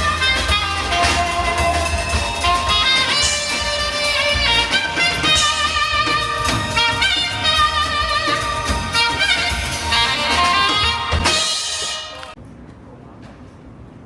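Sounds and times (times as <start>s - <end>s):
melodic instrumental music: 0.0s - 12.4s.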